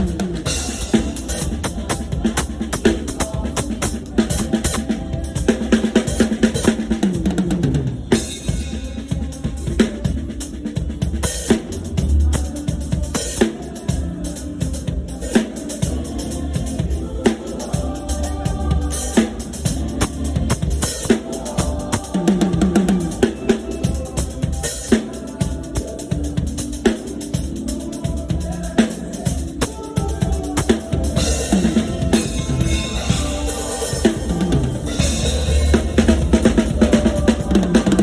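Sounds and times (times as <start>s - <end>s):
band instruments: 0.0s - 38.0s
drum kit playing a groove: 0.0s - 38.0s.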